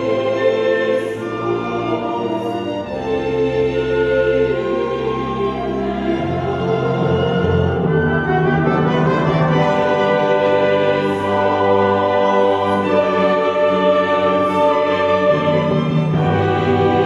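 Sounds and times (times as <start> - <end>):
orchestral music with held chords: 0.0 - 17.0.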